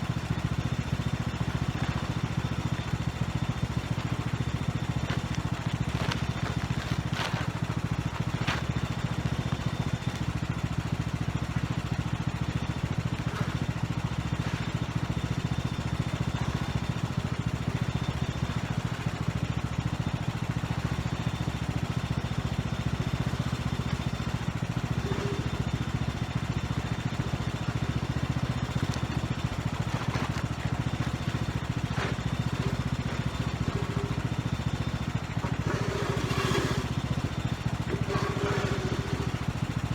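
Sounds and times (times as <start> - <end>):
riding lawn mower engine idling: 0.0 - 39.9.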